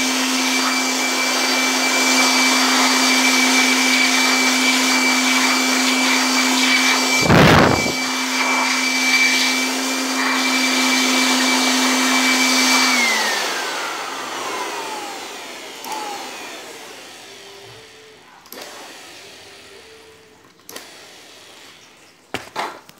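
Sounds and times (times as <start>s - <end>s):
electric air blower whining: 0.0s - 22.8s.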